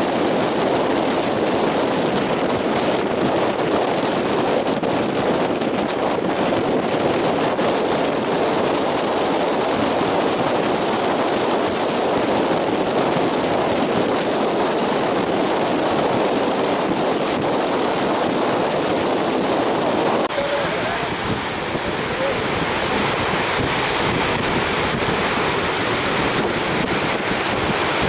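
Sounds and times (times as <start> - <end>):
heavy surf: 0.0 - 28.0
wind on microphone: 0.0 - 28.0.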